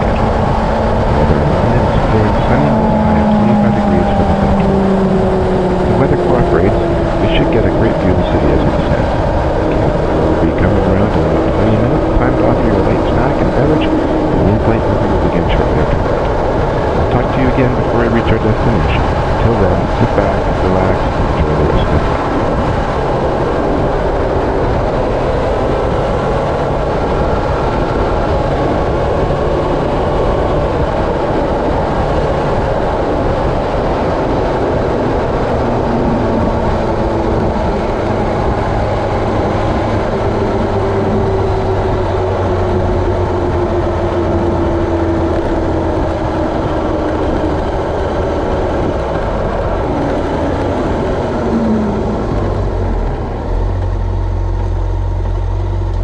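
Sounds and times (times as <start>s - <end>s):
rushing wind noise: 0.0s - 56.0s
tone sliding down: 0.0s - 56.0s
vehicle rumbling: 0.0s - 56.0s.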